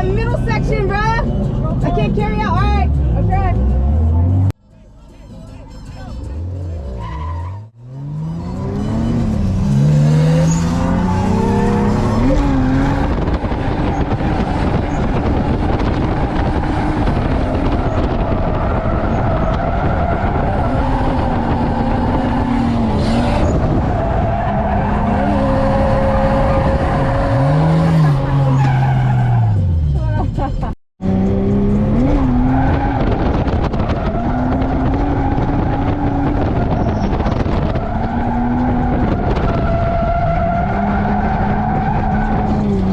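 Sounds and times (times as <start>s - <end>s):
car engine revving: 6.2s - 30.0s, 31.0s - 42.9s.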